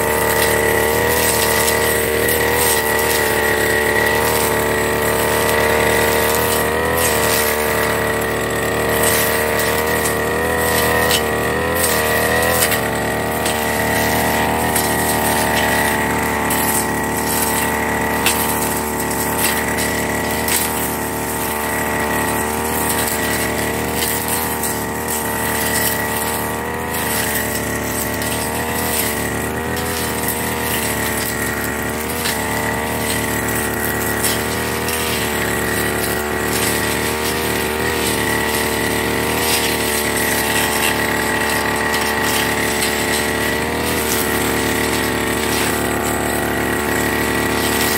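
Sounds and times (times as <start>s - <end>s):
brush cutter engine running: 0.0s - 47.9s.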